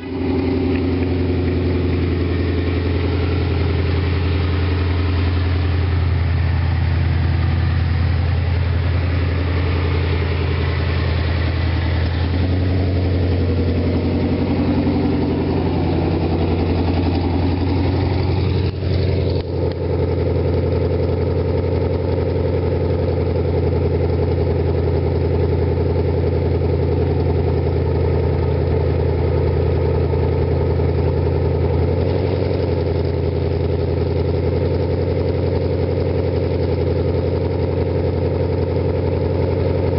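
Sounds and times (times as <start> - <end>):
car engine idling with deep drone: 0.0 - 39.9.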